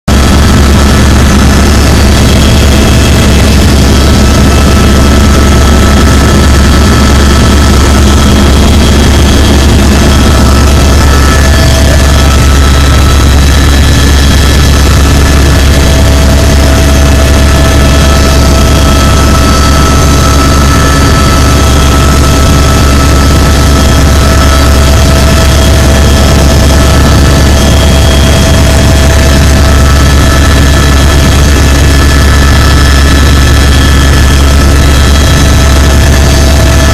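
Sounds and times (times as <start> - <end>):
constant whining tones: 0.1 - 36.9
helicopter cabin drone: 0.1 - 36.9.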